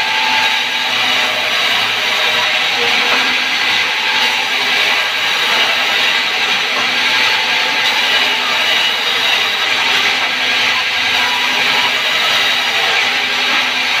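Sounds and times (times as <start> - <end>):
band saw cutting wood: 0.0 - 14.0.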